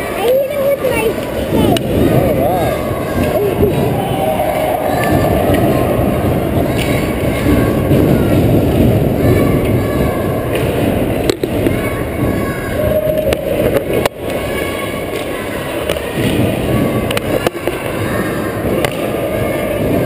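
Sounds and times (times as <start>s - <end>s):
distant voices: 0.0s - 20.0s
steady rumbling noise: 0.0s - 20.0s.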